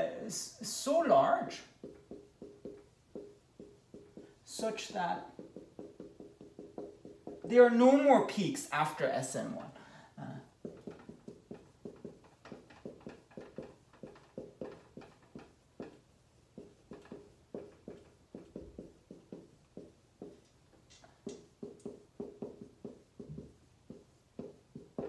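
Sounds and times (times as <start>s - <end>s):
marker squeaking on whiteboard: 1.5s - 7.7s, 10.4s - 16.0s, 16.6s - 25.0s.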